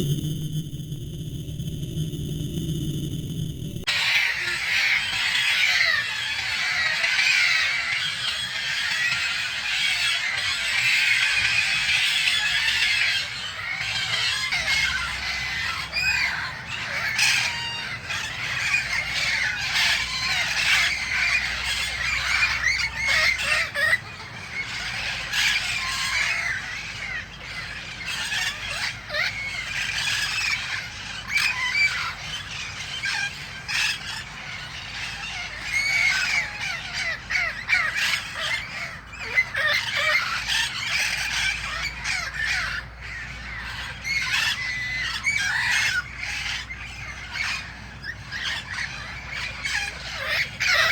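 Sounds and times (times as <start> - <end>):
parrots squawking: 3.9 - 50.9.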